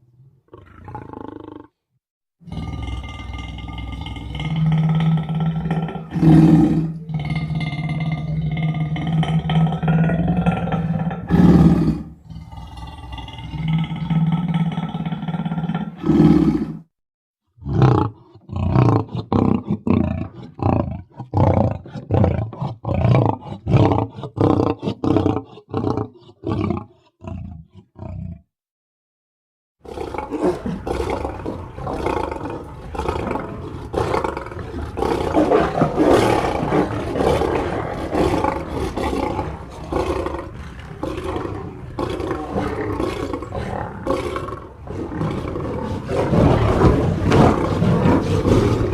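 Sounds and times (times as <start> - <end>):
lion roaring: 0.5 - 1.7, 2.5 - 16.9, 17.6 - 28.4, 29.8 - 48.9
lion grunting roars: 2.5 - 16.9, 17.6 - 28.4, 29.8 - 48.9.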